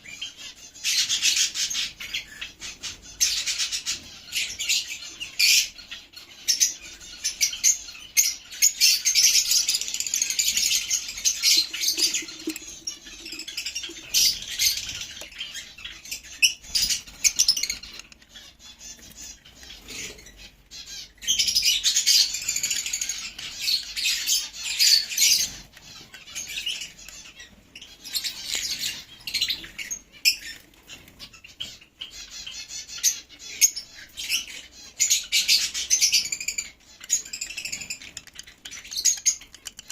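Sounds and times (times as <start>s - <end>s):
lovebirds chattering and squawking: 0.0s - 39.9s.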